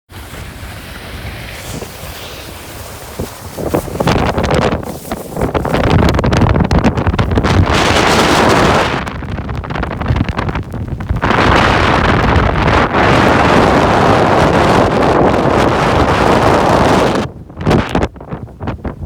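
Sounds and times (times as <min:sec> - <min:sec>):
wind gusts blasting microphone: 0:00.1 - 0:19.0.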